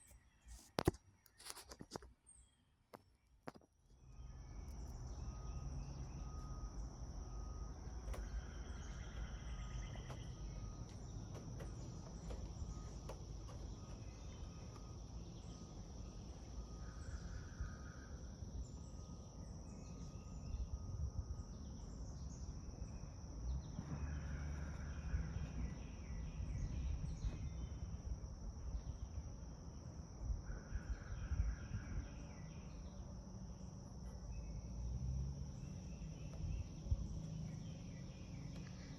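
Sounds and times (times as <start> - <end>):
high-pitched insect trill: 4.0 - 38.9.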